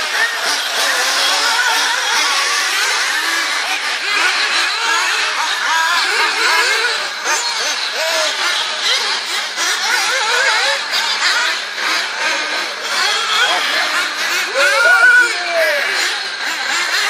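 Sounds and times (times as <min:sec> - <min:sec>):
rc buggy engines revving: 0:00.0 - 0:17.0.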